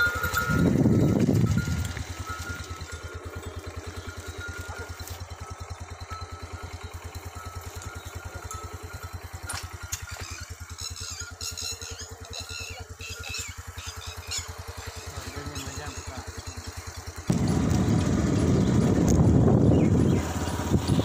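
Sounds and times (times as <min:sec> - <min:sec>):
high chirps: 0:00.0 - 0:16.9
motorcycle engine putter: 0:00.0 - 0:21.0.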